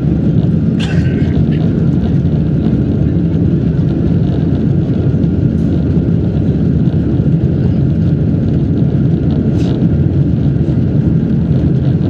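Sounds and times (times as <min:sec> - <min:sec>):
jet engines roaring on takeoff: 0:00.0 - 0:12.0.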